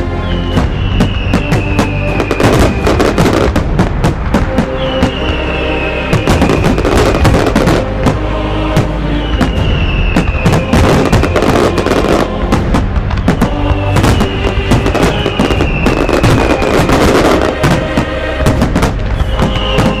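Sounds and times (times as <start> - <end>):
fireworks bangs and crackles: 0.0 - 20.0
music with falling tone: 0.0 - 20.0.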